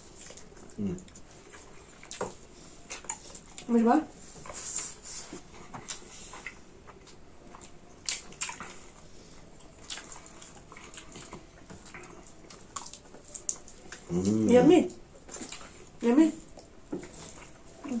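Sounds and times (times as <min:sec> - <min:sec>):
wet chewing and lip-smacking: 0:00.0 - 0:03.7, 0:04.4 - 0:18.0.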